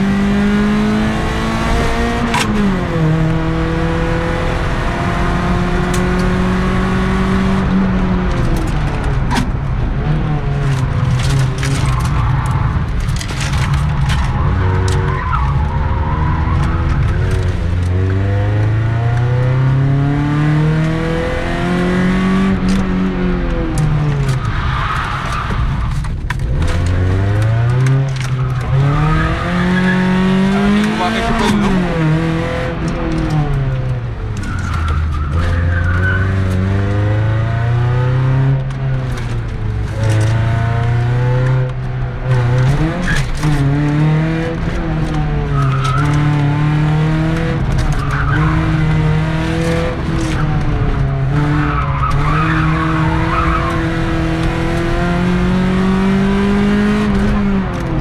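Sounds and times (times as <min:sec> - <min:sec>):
car engine revving hard: 0:00.0 - 0:08.8, 0:15.8 - 0:23.4, 0:26.6 - 0:34.0, 0:35.3 - 0:58.0.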